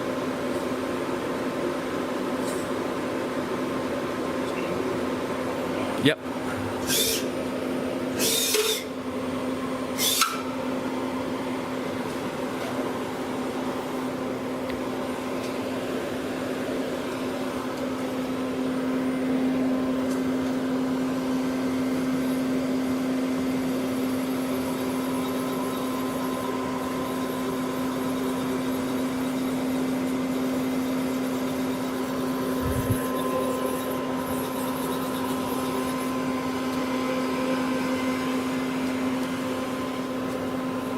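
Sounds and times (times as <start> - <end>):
lathe machine humming: 0.0 - 40.9.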